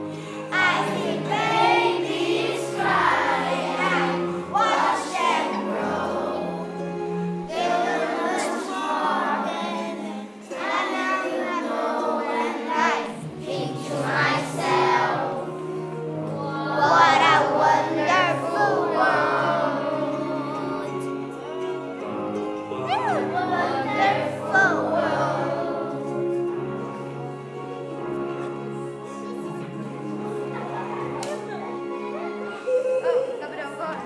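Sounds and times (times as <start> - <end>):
children singing: 0.0 - 34.0
instrumental backing music: 0.0 - 34.0.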